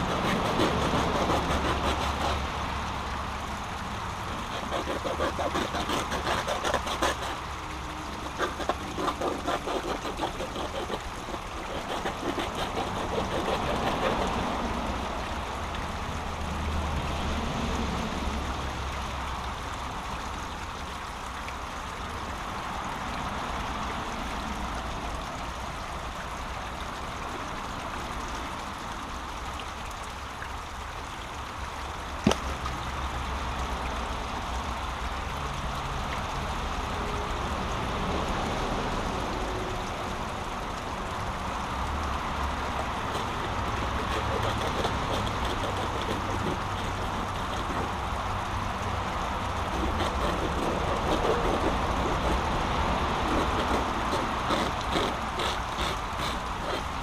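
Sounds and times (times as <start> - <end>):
brook trickling through logs: 0.0 - 57.0.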